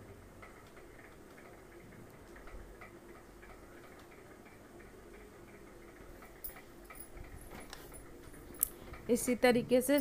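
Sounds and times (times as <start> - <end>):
faint regular ticking: 0.0 - 10.0
low steady hum: 0.0 - 10.0.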